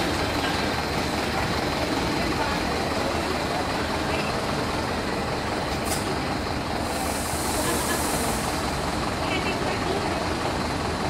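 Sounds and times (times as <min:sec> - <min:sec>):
train running hum: 0:00.0 - 0:11.0.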